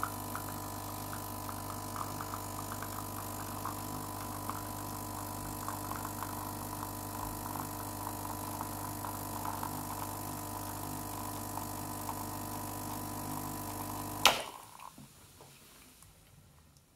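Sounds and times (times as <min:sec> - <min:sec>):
espresso machine pump humming: 0:00.0 - 0:14.9.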